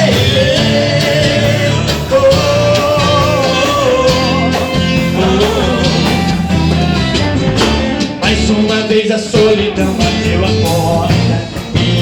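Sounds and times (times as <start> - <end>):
gospel band music: 0.0 - 12.0.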